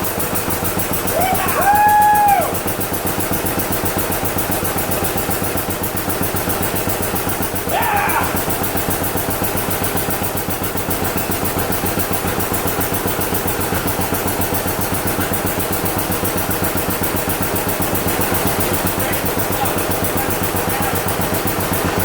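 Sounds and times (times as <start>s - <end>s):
tractor engine popping: 0.0s - 22.0s.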